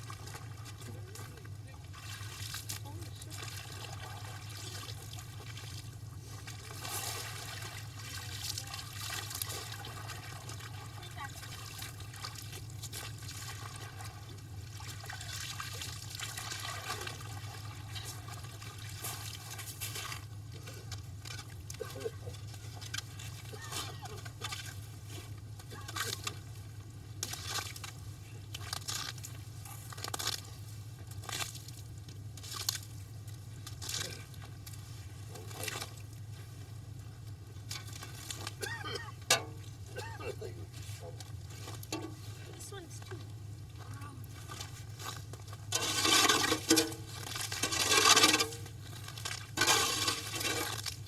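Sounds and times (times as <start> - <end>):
steady low hum: 0.0 - 51.0
water trickling and splashing: 0.0 - 51.0.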